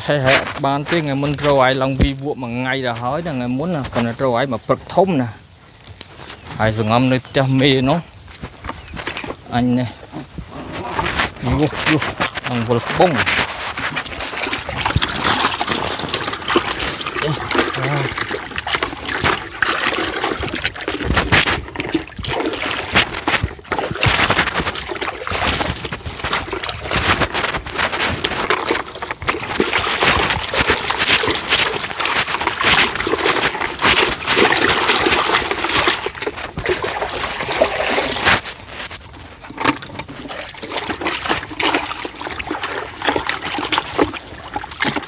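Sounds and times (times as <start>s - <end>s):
water splashing and sloshing: 0.0s - 45.0s.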